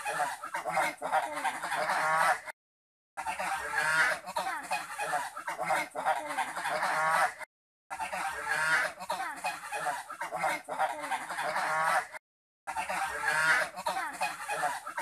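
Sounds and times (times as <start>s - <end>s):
geese and ducks calling: 0.0s - 2.5s, 3.2s - 15.0s.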